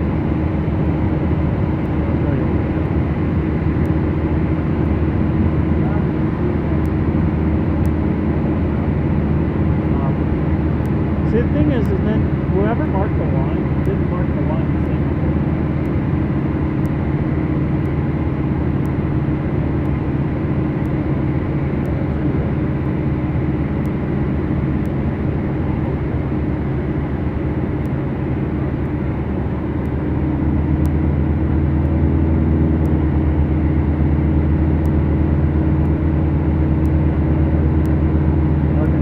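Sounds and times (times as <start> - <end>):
piston aircraft engines droning: 0.0 - 39.0
propeller and cabin noise: 0.0 - 39.0.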